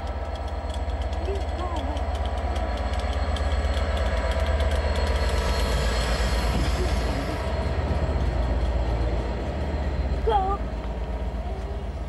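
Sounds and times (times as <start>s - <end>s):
diesel locomotive engine rumble: 0.0s - 12.0s
wheels rushing on rail: 0.0s - 12.0s.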